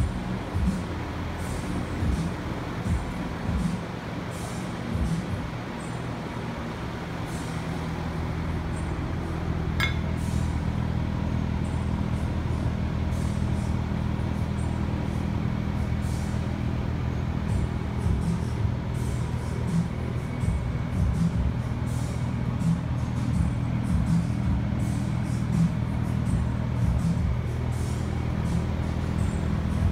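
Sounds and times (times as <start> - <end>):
low machine hum: 0.0 - 29.9.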